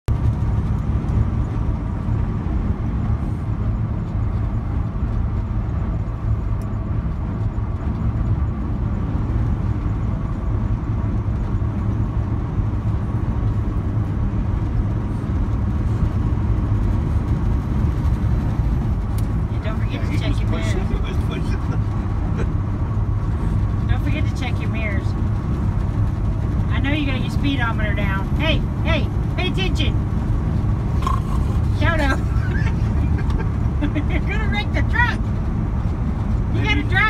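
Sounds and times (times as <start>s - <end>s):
road noise: 0.0s - 37.0s
truck engine drone: 0.0s - 37.0s.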